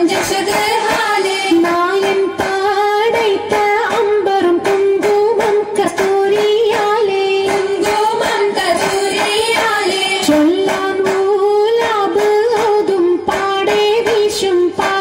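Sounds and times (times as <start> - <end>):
sharp rhythmic beats: 0.0 - 15.0.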